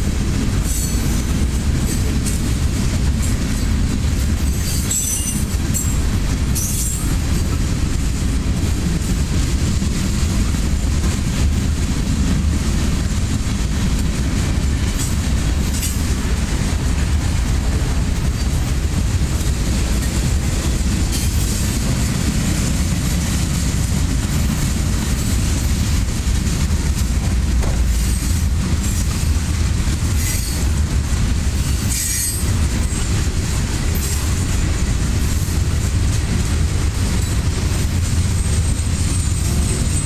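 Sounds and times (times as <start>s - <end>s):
freight train wheels rumbling on rails: 0.0s - 40.0s.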